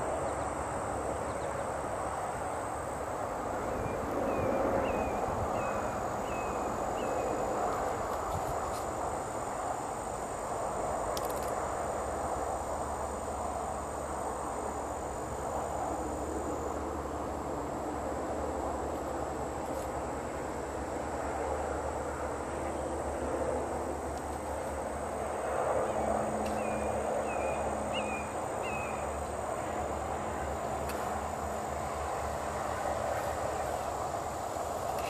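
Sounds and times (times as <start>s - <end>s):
high insect drone: 0.0s - 35.0s
road noise: 0.0s - 35.0s.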